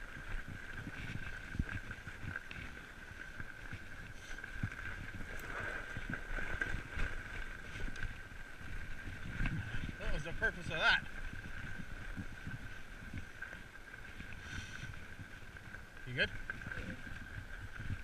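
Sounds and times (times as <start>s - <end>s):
bike tyres rolling on snow: 0.0s - 18.0s
wind on microphone: 0.0s - 18.0s.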